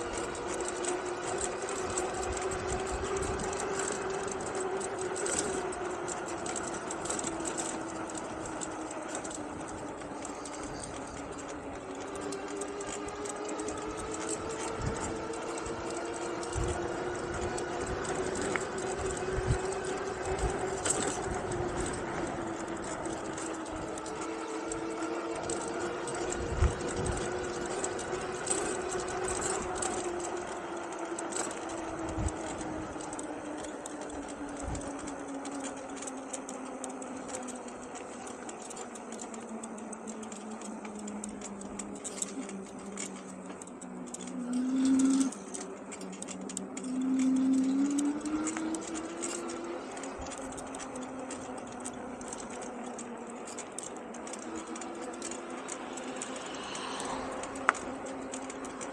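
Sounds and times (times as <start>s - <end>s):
electric bike motor whining: 0.0s - 58.9s.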